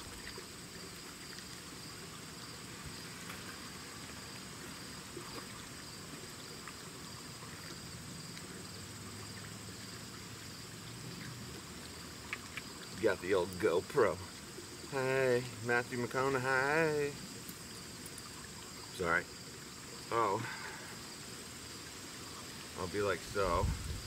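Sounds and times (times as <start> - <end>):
insect chirring: 0.0 - 24.0.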